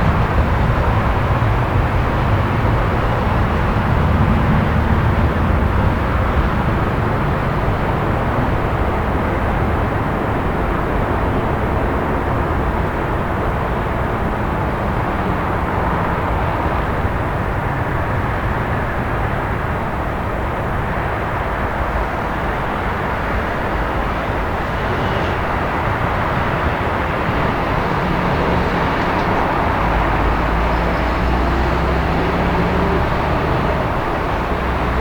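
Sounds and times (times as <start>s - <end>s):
distant traffic rumble: 0.0s - 35.0s.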